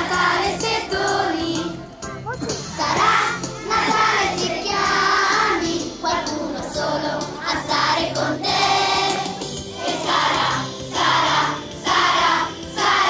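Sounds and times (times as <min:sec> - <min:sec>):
children's choir singing: 0:00.0 - 0:01.8, 0:02.7 - 0:13.0.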